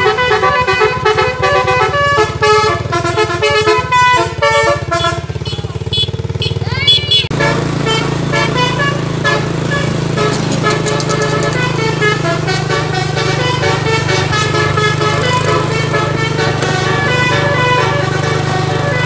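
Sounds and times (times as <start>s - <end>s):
musical air horn tune: 0.0s - 19.0s.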